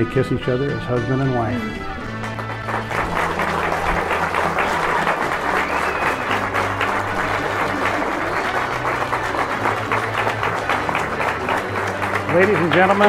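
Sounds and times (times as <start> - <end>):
music playing: 0.0 - 13.0
crowd applauding: 2.0 - 13.0.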